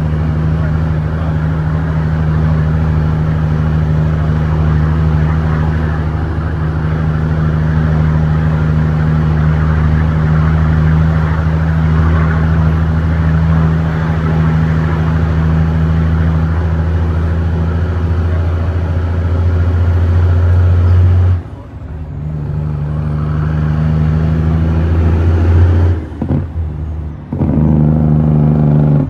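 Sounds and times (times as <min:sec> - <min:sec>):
diesel truck engine droning: 0:00.0 - 0:29.0
road noise: 0:00.0 - 0:29.0.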